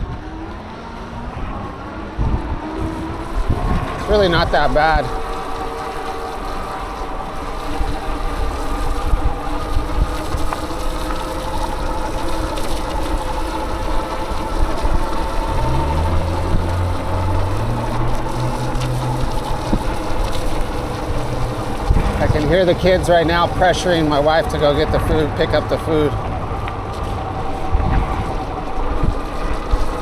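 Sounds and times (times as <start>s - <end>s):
motor vehicle drone: 0.0s - 30.0s
steady whining tones: 0.0s - 30.0s
traffic noise: 0.0s - 30.0s
wind on microphone: 0.0s - 30.0s.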